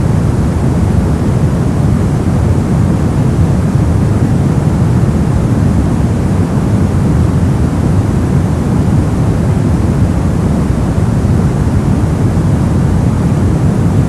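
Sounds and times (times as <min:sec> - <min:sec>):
brown noise rumble: 0:00.0 - 0:14.0.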